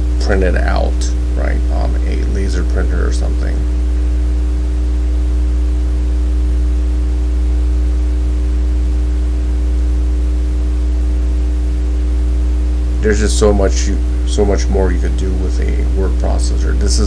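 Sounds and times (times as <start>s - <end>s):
electrical hum with buzzing overtones: 0.0s - 17.0s.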